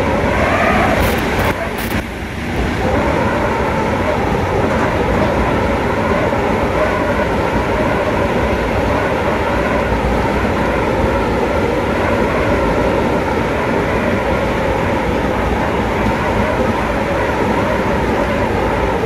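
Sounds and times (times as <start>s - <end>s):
train rumble from inside carriage: 0.0s - 19.0s.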